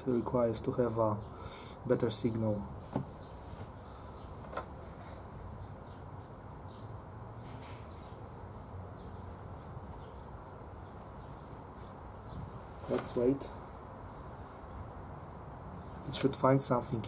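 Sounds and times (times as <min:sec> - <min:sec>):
outdoor background hum: 0:00.0 - 0:17.0.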